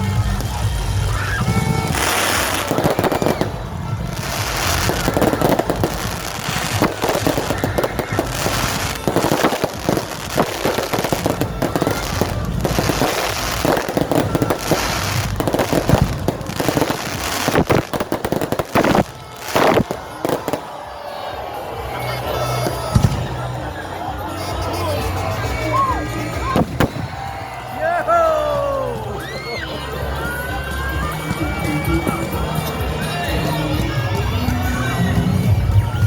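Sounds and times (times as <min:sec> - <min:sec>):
fireworks bangs and crackling: 0:00.0 - 0:29.5.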